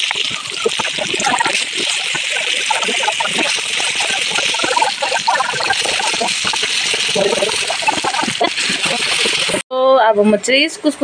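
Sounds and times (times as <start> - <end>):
onions and tomatoes sizzling in oil: 0.0 - 9.6.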